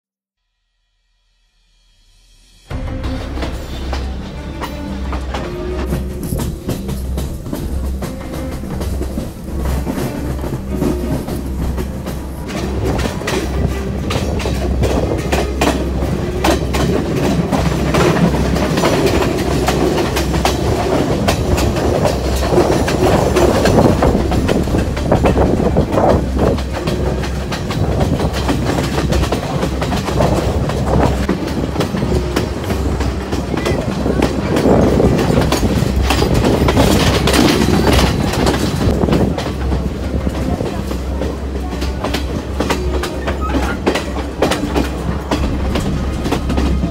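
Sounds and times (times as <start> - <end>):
train rumbling: 1.8 - 46.9
wheels clacking over rail joints: 2.8 - 46.9.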